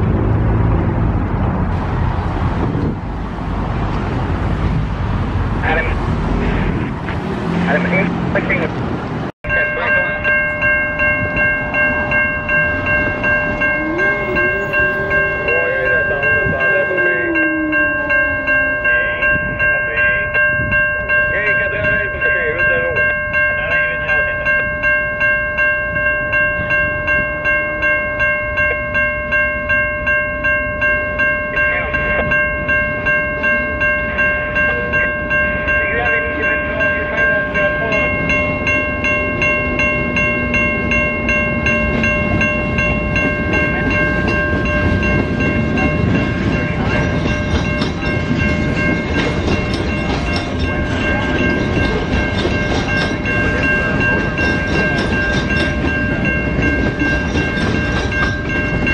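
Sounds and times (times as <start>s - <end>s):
train wheels rumbling on rails: 0.0s - 27.9s, 28.7s - 58.9s
level-crossing warning bell ringing: 4.4s - 58.9s.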